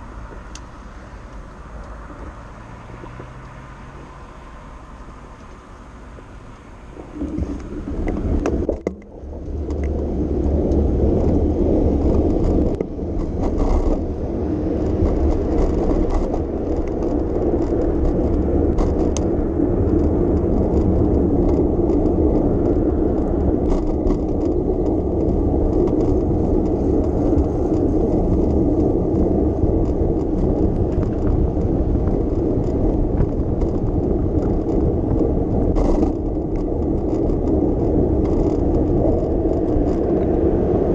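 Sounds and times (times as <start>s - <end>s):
bicycle rolling: 0.0s - 40.9s.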